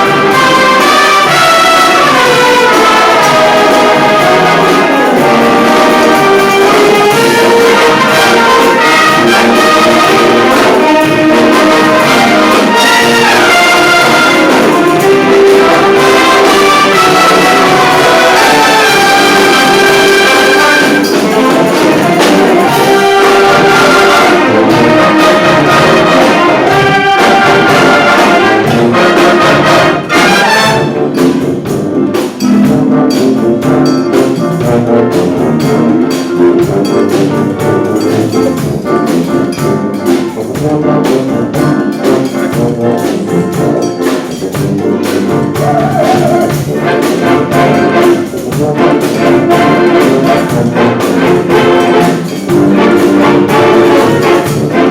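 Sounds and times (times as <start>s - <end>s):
brass band playing: 0.0s - 54.9s
sharp percussive hits: 0.0s - 54.9s.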